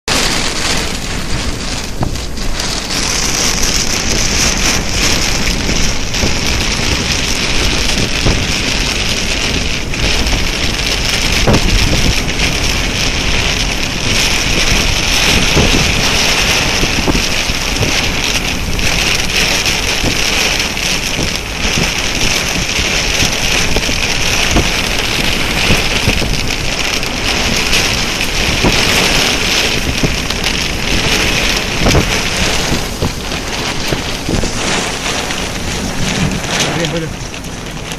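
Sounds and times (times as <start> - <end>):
rain falling: 0.1 - 37.9
wind rumbling on microphone: 0.1 - 37.9.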